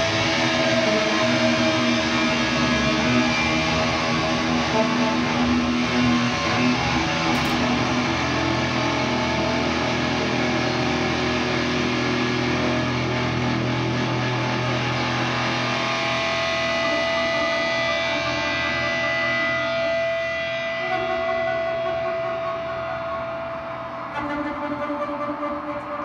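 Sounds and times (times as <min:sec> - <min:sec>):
bass and guitar drone: 0:00.0 - 0:26.0.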